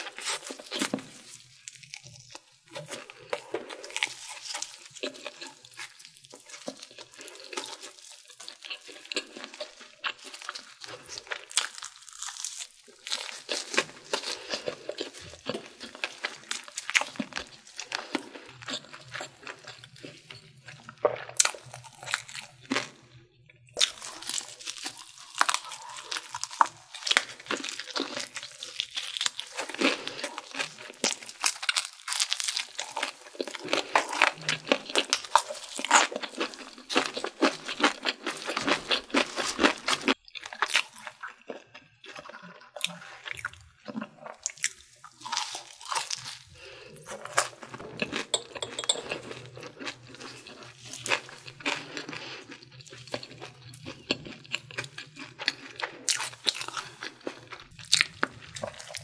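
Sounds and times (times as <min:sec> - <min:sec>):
crunching fried chicken: 0:00.0 - 0:59.0.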